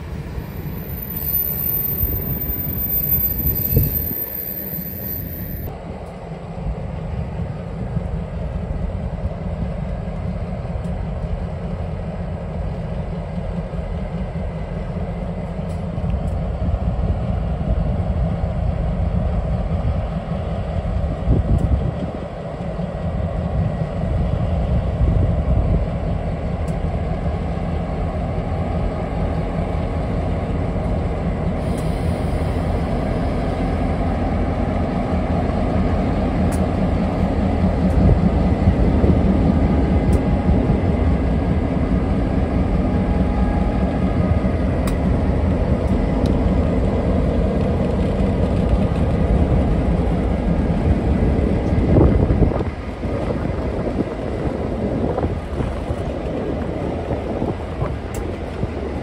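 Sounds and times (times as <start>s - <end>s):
diesel locomotive engine: 0.0s - 59.0s
steel wheels running on rails: 0.0s - 59.0s.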